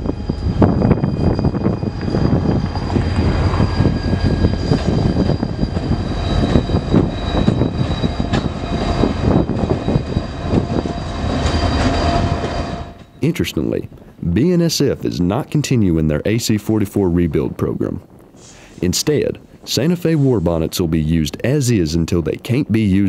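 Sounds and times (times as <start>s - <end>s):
freight train locomotive engines: 0.0s - 14.9s, 17.5s - 21.7s
high-pitched whine: 0.0s - 15.0s, 17.6s - 21.6s.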